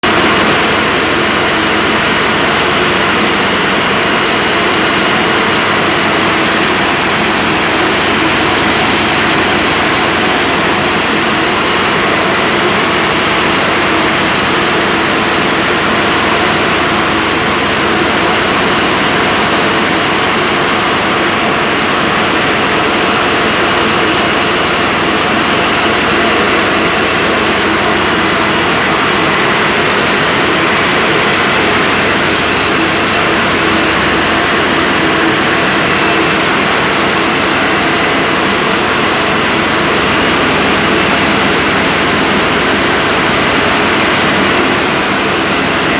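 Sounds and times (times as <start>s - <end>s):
machine noise with high whine: 0.0s - 45.9s.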